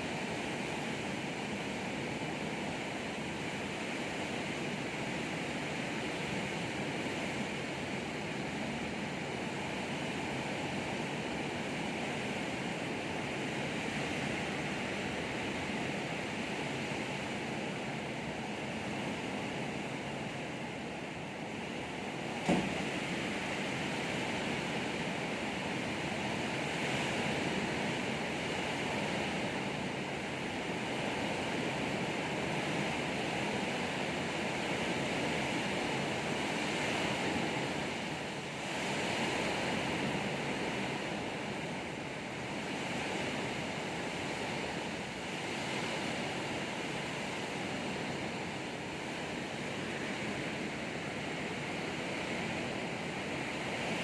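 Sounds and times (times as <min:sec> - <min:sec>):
heavy rain in wind: 0:00.0 - 0:54.0.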